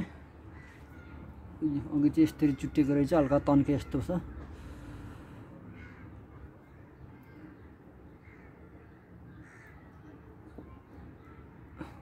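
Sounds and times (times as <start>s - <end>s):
faint bird calls: 0.0s - 12.0s
low background noise: 0.0s - 12.0s.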